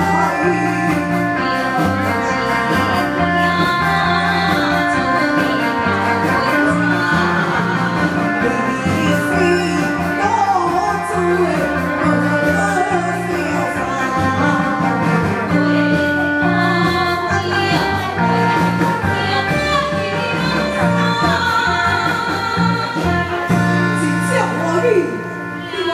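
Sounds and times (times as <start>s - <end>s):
amplified backing music with beat: 0.0s - 25.9s
women singing through microphones: 0.0s - 25.9s.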